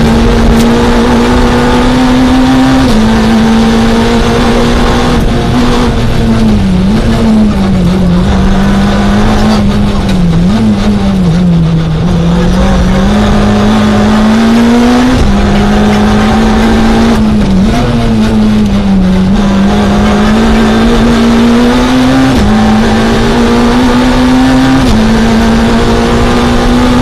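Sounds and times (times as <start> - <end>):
car engine accelerating and upshifting: 0.0 - 27.0.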